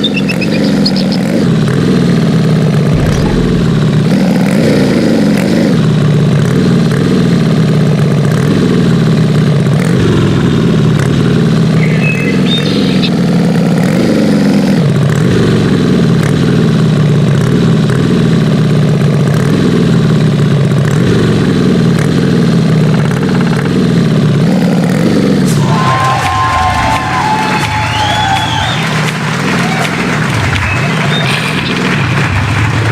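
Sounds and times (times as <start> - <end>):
truck engine revving: 0.0 - 32.9.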